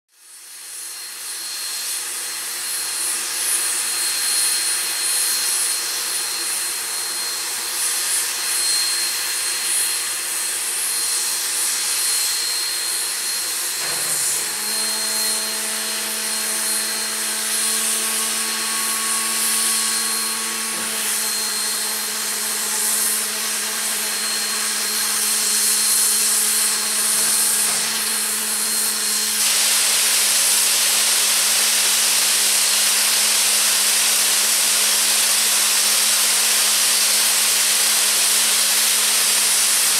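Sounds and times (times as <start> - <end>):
steam hissing: 0.2 - 39.9.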